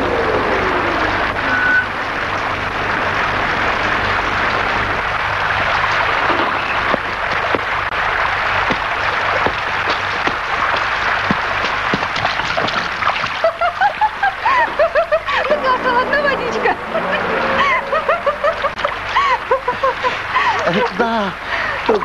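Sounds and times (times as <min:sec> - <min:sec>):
drips and splashes: 0:00.0 - 0:15.6, 0:16.6 - 0:22.0
steady rain hissing: 0:00.0 - 0:22.0.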